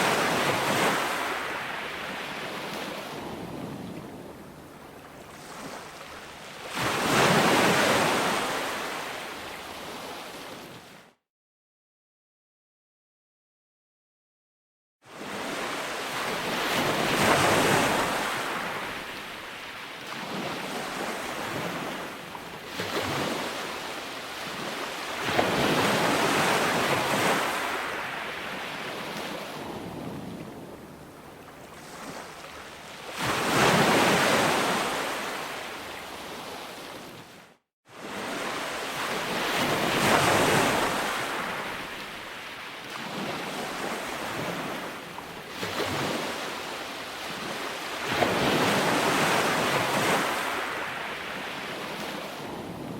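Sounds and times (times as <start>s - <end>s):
ocean waves breaking on beach: 0.0s - 11.2s, 15.1s - 52.9s.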